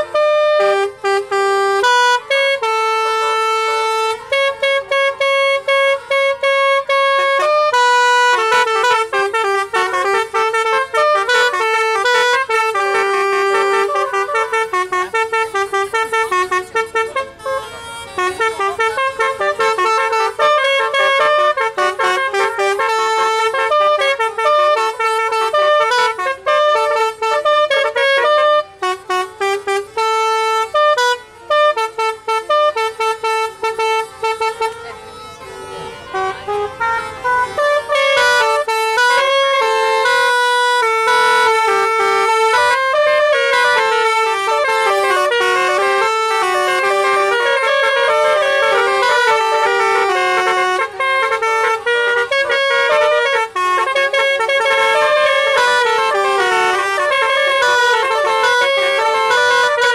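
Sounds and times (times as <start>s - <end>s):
bus horn playing a tune: 0.0s - 59.9s.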